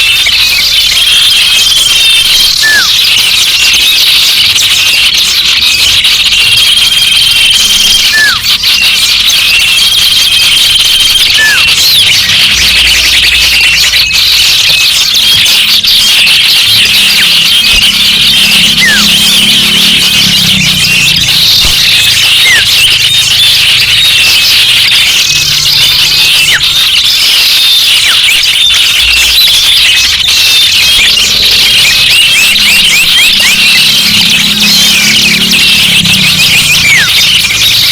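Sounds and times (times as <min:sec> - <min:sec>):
downward-gliding bird whistle: 0:00.0 - 0:37.9
songbirds chirping and trilling: 0:00.0 - 0:37.9.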